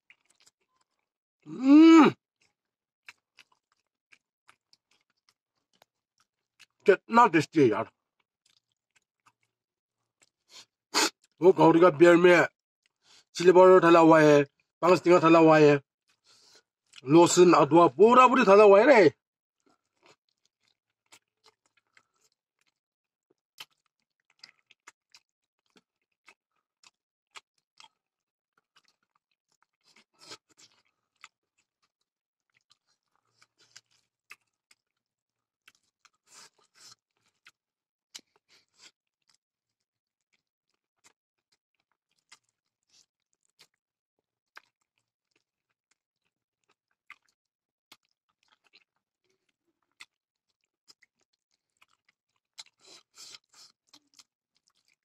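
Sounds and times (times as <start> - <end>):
person chewing food: 0.0 - 6.9, 7.9 - 11.4, 12.8 - 13.3, 16.0 - 17.0, 19.6 - 55.0.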